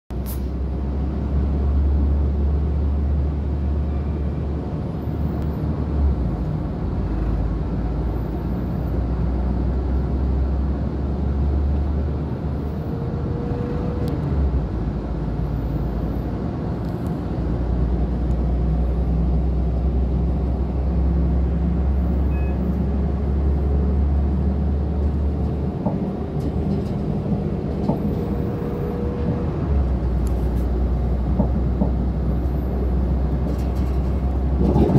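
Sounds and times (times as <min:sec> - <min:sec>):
train wheels rumbling on rails: 0:00.2 - 0:34.9.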